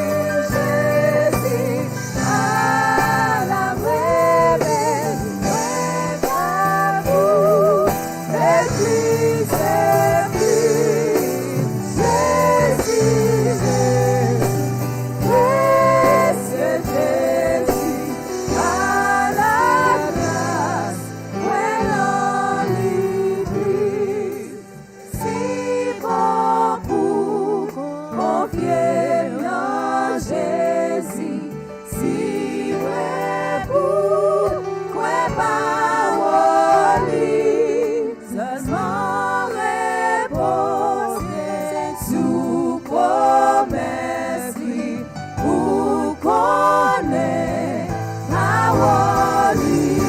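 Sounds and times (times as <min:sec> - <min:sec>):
gospel singing with vibrato: 0:00.0 - 0:50.0
instrumental accompaniment: 0:00.0 - 0:50.0.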